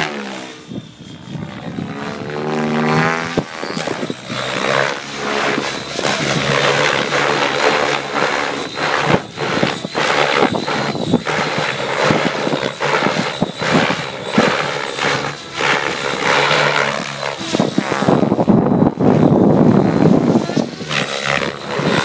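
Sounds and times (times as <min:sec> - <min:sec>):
electric motor whine: 0:00.0 - 0:22.0
helicopter rotor blades: 0:00.0 - 0:22.0.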